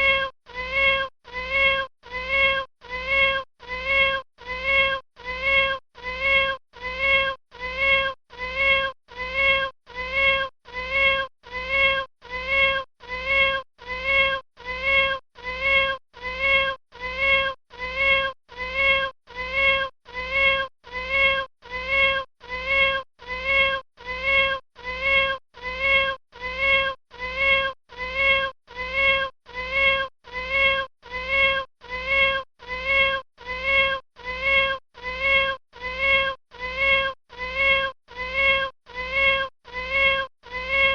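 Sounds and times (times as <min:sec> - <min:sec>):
kitten meowing: 0:00.0 - 0:40.9.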